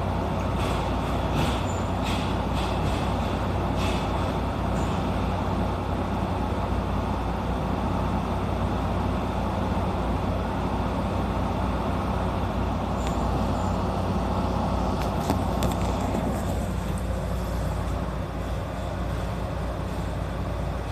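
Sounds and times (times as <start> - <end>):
electric train humming: 0.0 - 20.9.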